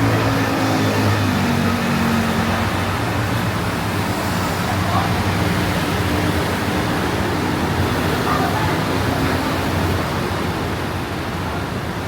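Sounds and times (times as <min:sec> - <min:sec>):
road traffic roar: 0:00.0 - 0:12.0.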